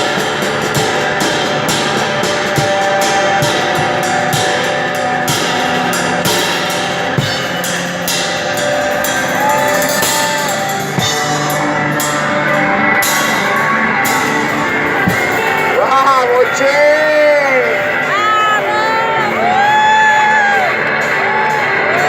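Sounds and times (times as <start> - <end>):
drum kit with cymbal hits: 0.0 - 22.0
electric guitar: 0.0 - 22.0.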